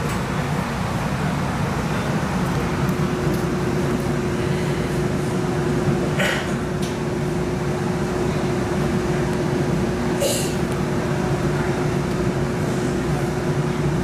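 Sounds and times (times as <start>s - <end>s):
streetcar rumble and hum: 0.0s - 14.0s.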